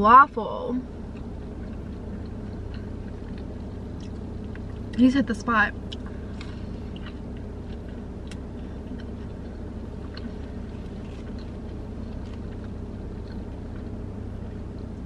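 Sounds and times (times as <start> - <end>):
low hum inside car: 0.0 - 15.0
chewing crunches and mouth clicks: 1.0 - 5.0, 5.7 - 15.0.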